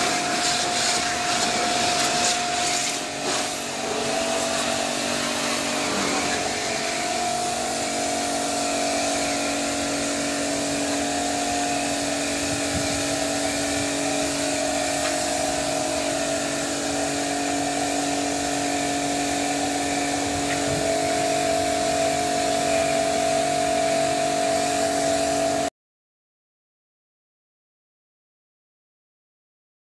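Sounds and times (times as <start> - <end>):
pressure washer motor hum: 0.0 - 25.7
water jet hissing: 0.0 - 25.7.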